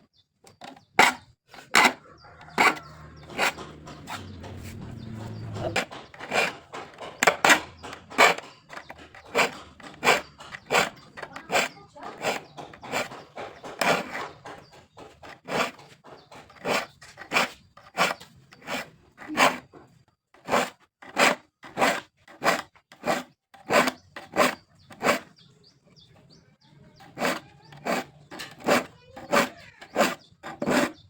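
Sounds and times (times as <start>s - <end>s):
hand saw strokes: 1.0s - 19.8s, 20.4s - 25.5s, 27.0s - 31.0s.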